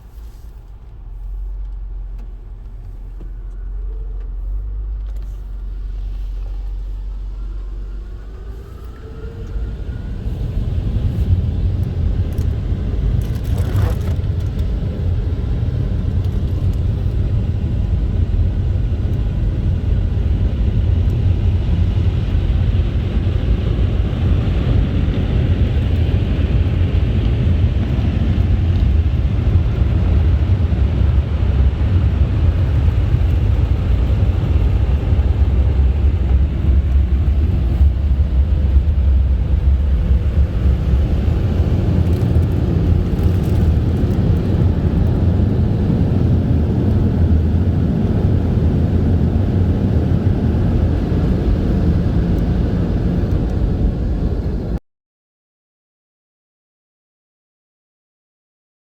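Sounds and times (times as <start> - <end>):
car wash machinery rumbling: 0.0 - 53.1.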